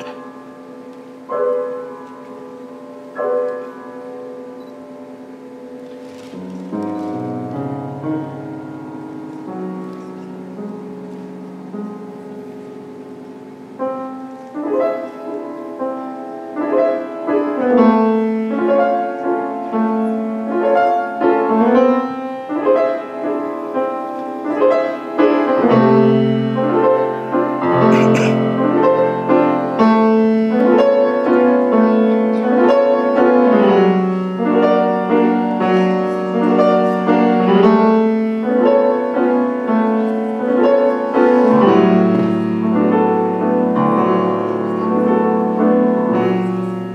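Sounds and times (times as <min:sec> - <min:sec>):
grand piano played fast: 0:00.0 - 0:46.9.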